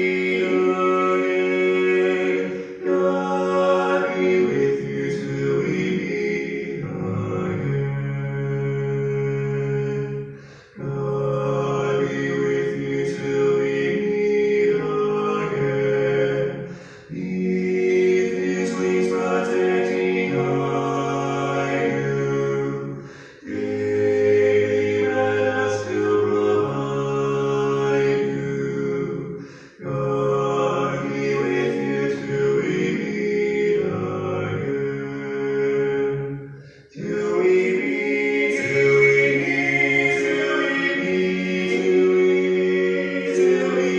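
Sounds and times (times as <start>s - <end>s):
choir singing held chords: 0.0s - 43.9s.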